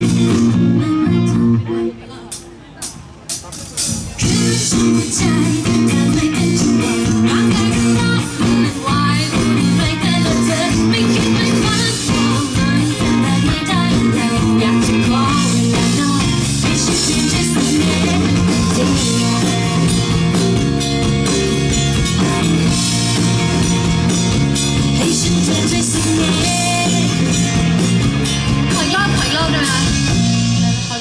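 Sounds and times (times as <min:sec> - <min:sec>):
drum kit: 0:00.0 - 0:01.3, 0:02.3 - 0:31.0
bass line: 0:00.0 - 0:01.8, 0:04.1 - 0:31.0
guitar: 0:00.0 - 0:31.0.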